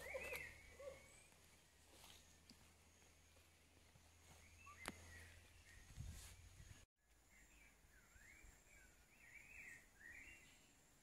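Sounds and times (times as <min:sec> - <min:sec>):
faint warbling birdsong: 0:00.0 - 0:11.0.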